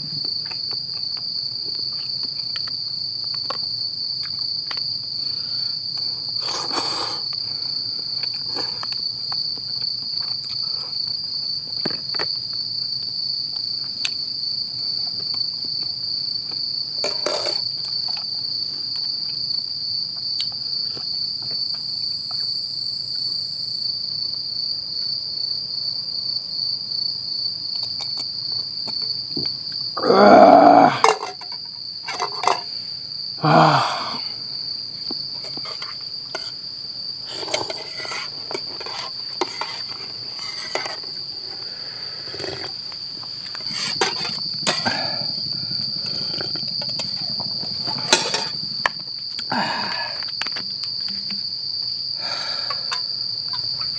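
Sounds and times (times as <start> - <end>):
crickets chirring: 0.0 - 53.9.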